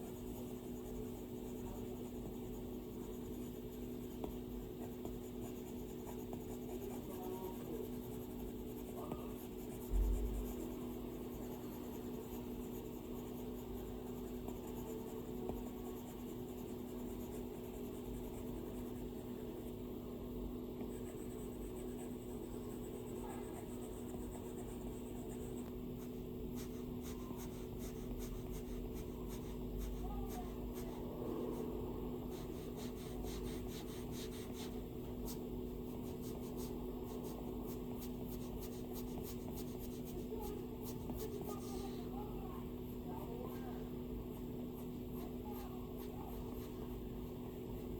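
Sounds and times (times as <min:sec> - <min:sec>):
stylus scratching on glass screen: 0:00.0 - 0:19.6, 0:20.8 - 0:47.9
steady low hum: 0:00.0 - 0:47.9.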